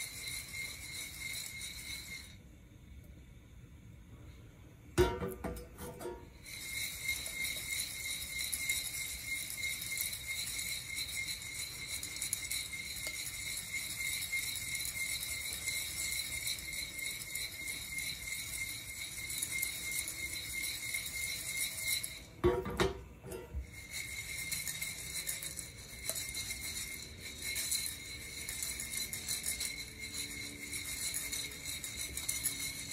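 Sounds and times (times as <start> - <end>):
coffee beans rattling in roaster: 0.0 - 2.5, 5.0 - 32.9
faint steady high tone: 0.0 - 32.9.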